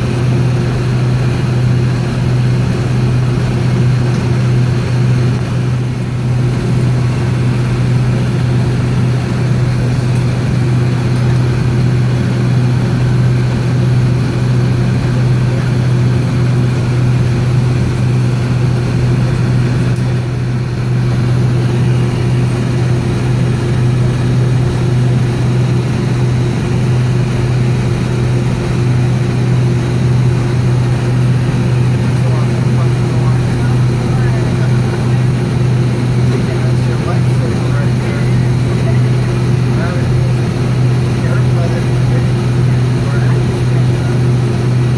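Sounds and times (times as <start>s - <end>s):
deep engine hum: 0.0s - 44.9s.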